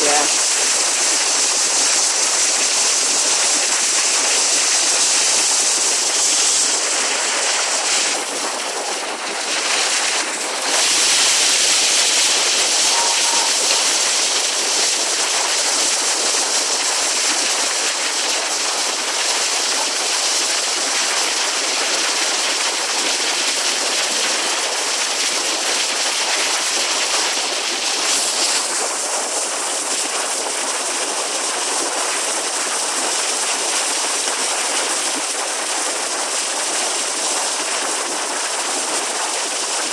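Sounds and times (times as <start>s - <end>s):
waterfall pouring onto rocks: 0.0s - 39.9s.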